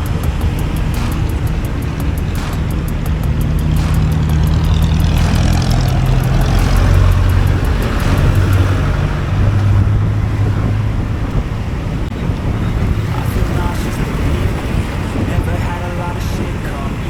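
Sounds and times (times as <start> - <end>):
road and wind noise: 0.0 - 17.0
scooter engine running: 0.0 - 17.0.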